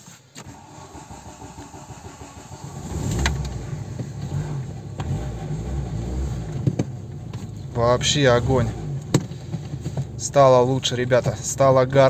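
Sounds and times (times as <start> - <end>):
car engine idling: 0.4 - 12.0
car starter cranking: 0.4 - 12.0.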